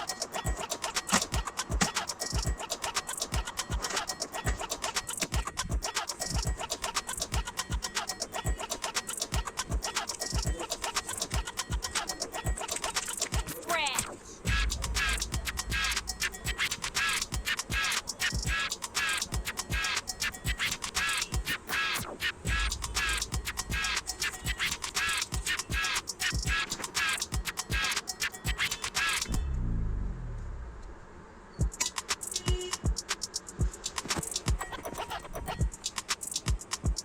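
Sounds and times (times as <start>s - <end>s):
music with driving beat: 0.0s - 29.4s, 31.6s - 37.0s.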